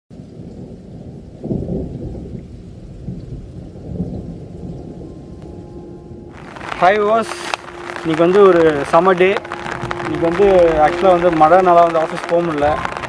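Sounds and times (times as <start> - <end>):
muffled rolling thunder: 0.2 - 13.0.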